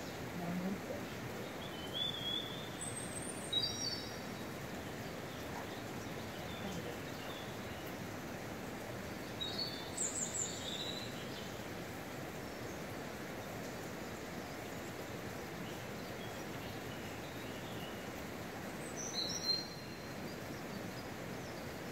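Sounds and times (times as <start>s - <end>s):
flowing river water: 0.0s - 21.9s.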